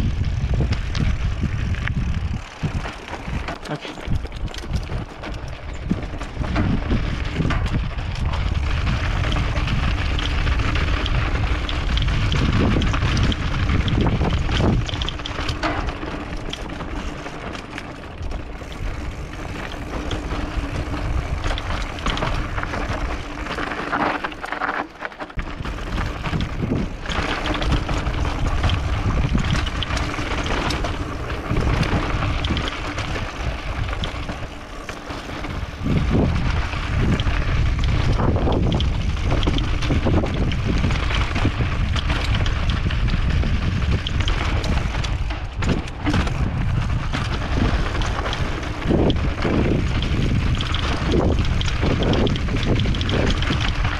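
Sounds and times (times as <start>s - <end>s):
wind rushing over microphone: 0.0s - 23.7s, 25.4s - 53.9s
bike knocks and rattles: 0.0s - 53.9s.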